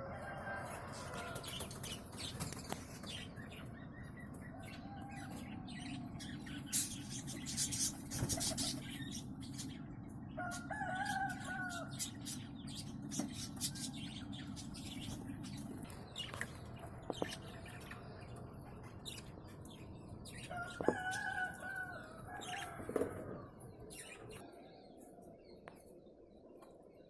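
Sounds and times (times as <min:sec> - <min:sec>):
birds ticking and rustling: 0:00.1 - 0:27.0.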